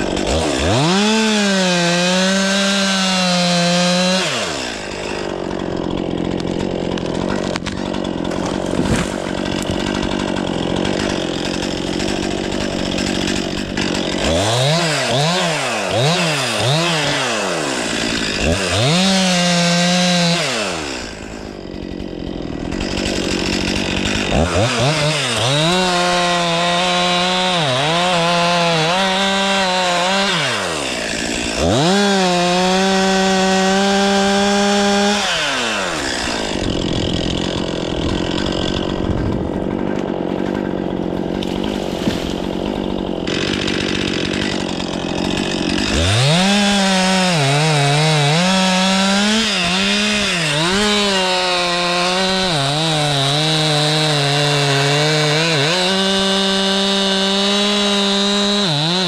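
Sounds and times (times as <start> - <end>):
chainsaw cutting wood: 0.0 - 59.0
chainsaw revving: 0.0 - 59.0.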